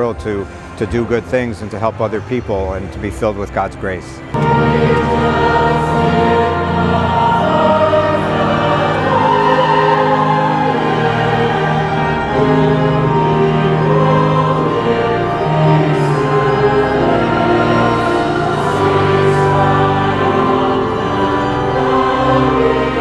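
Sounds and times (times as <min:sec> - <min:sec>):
choir singing a hymn: 0:00.0 - 0:23.0
instrumental accompaniment: 0:00.0 - 0:23.0.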